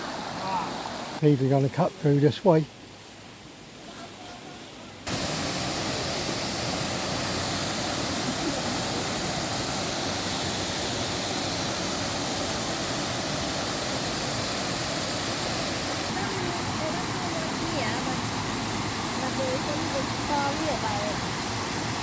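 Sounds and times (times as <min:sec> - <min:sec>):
waterfall rushing: 0:00.0 - 0:01.2, 0:05.1 - 0:22.0.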